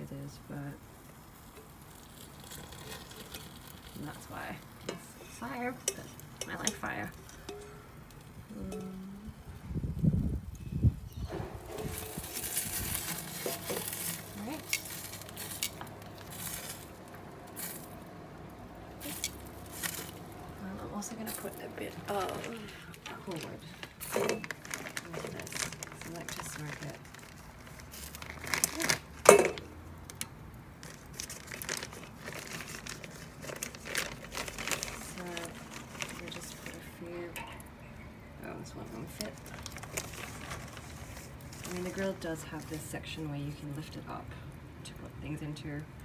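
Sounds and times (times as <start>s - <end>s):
oil sizzling on hot charcoal: 0.0s - 46.0s.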